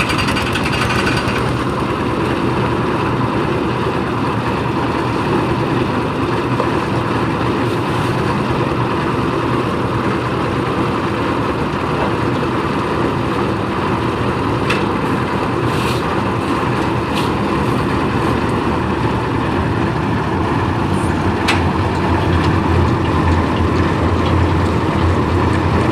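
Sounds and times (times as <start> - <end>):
machine engine running: 0.0 - 25.9.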